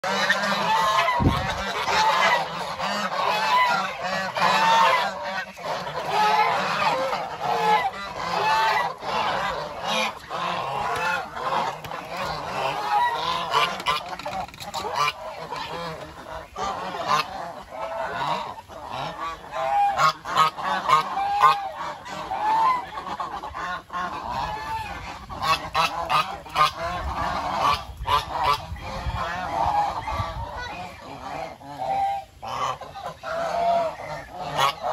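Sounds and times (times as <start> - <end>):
geese honking: 0.0 - 34.9.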